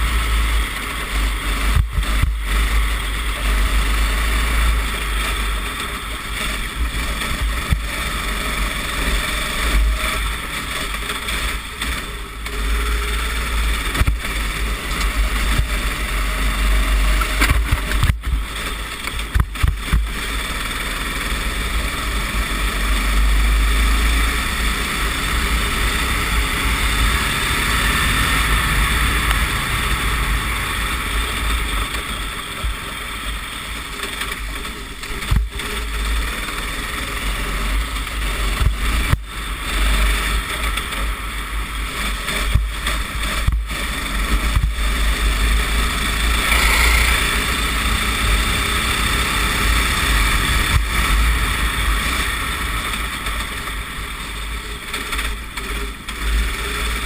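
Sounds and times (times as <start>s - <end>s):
wind rumble on microphone: 0.0s - 46.5s, 47.2s - 57.0s
kart engine running: 0.0s - 57.0s.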